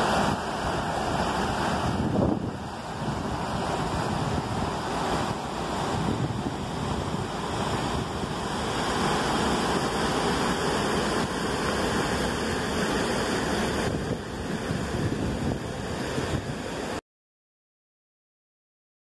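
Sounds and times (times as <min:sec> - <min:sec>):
wind buffeting microphone: 0:00.0 - 0:12.1, 0:13.2 - 0:17.0
water rushing over weir and rapids: 0:00.0 - 0:17.0.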